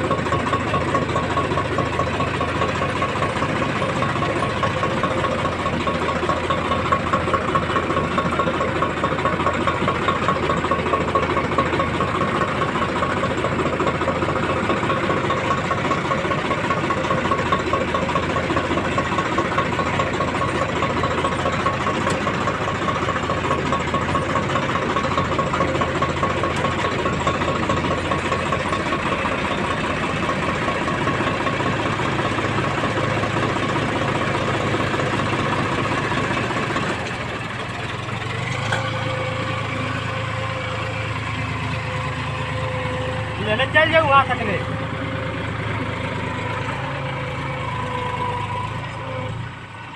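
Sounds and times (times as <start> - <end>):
tractor diesel engine chugging: 0.0 - 49.9.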